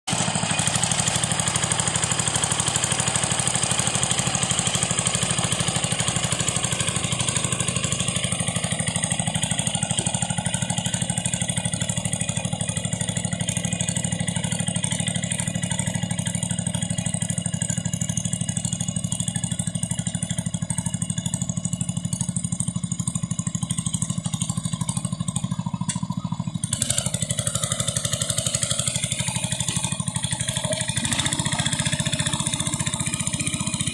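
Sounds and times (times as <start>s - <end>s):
garden tractor engine under load: 0.1s - 33.9s.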